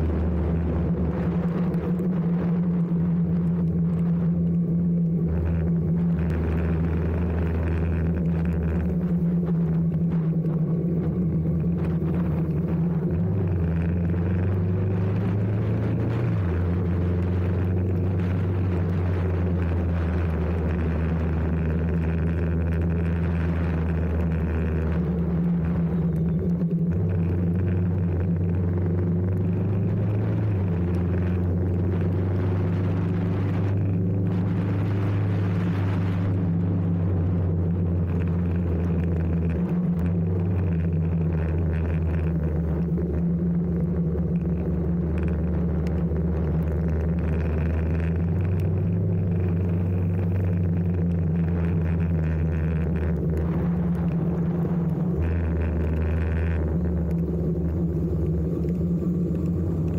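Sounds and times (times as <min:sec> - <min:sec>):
motorcycle engine cruising: 0:00.0 - 0:59.9
wind: 0:00.0 - 0:59.9.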